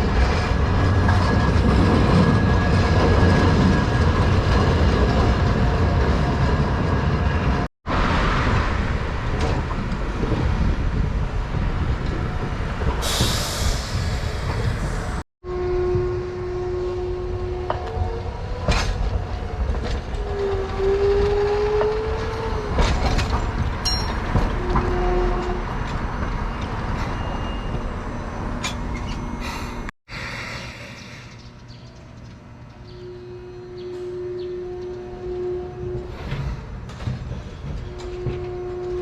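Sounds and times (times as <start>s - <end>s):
streetcar whine: 0.0s - 39.0s.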